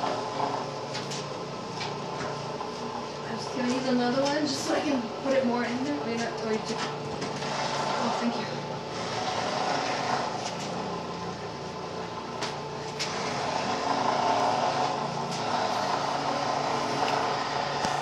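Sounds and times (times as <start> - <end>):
juicer motor running: 0.0 - 18.0.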